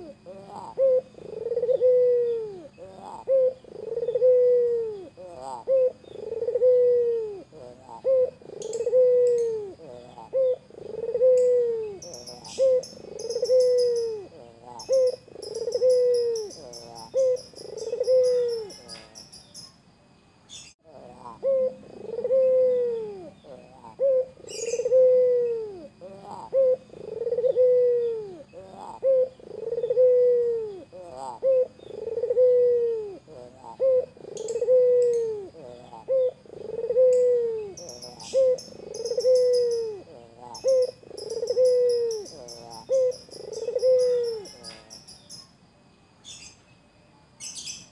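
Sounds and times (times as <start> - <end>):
dove cooing: 0.0 - 19.3, 20.9 - 45.1
faint small birds chirping: 0.0 - 47.9.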